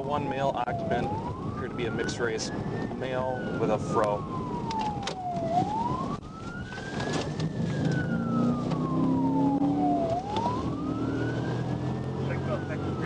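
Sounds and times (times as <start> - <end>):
car engine and road noise: 0.0 - 13.0
police siren wailing: 0.0 - 13.0.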